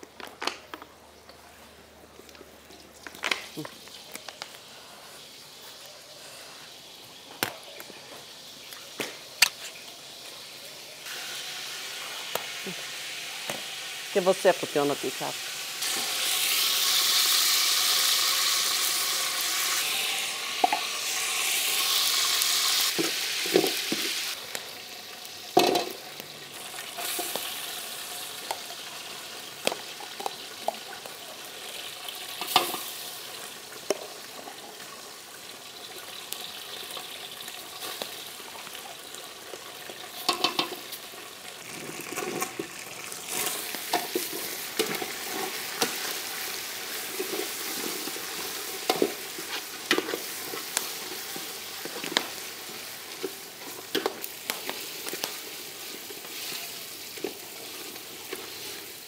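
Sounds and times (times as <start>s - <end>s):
food sizzling in a pot: 2.5s - 59.0s.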